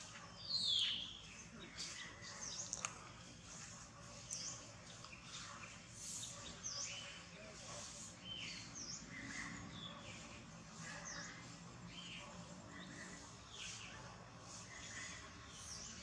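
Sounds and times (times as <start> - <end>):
birds chirping: 0.0 - 16.0
faint outdoor ambience: 0.0 - 16.0.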